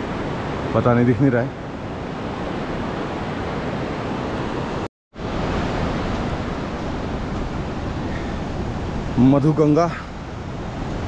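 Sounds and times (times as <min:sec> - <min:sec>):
mountain river rushing: 0:00.0 - 0:11.0.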